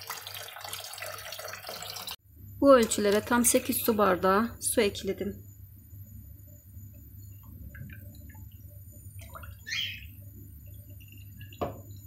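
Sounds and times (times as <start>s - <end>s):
low steady hum: 2.2s - 12.0s.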